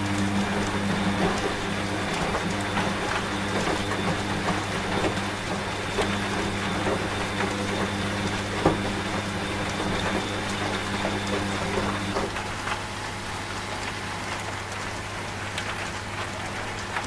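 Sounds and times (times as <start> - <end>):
steady rain: 0.0 - 17.0
washing machine humming: 0.0 - 17.0.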